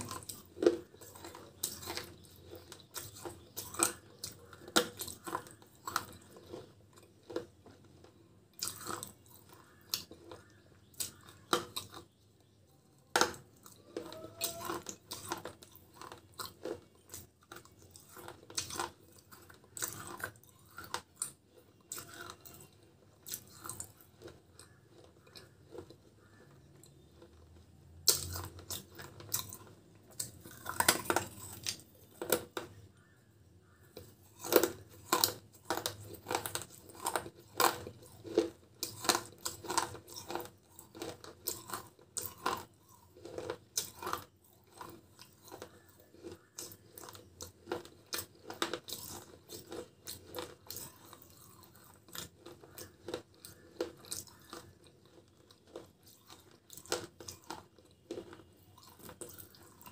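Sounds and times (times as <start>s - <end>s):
clay pot crunching between teeth: 0.0s - 59.9s.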